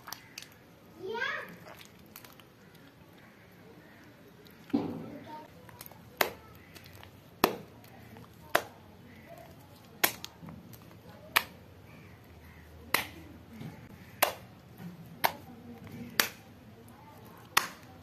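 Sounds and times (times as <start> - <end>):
slime squishing: 0.0 - 0.7, 1.5 - 18.0.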